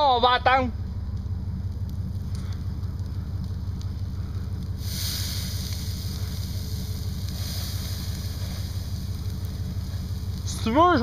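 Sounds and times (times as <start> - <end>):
fire rumbling: 0.0 - 11.0
hissing rush of fire: 0.8 - 11.0.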